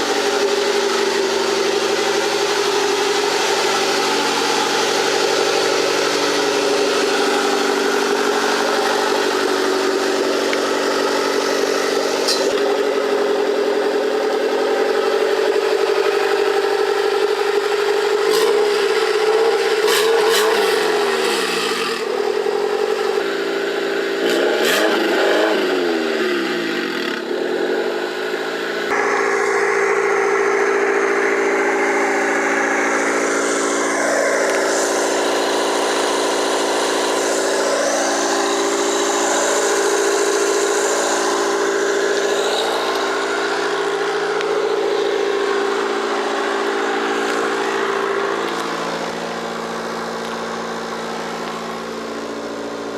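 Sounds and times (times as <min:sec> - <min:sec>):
car engine revving and idling: 0:00.0 - 0:52.9.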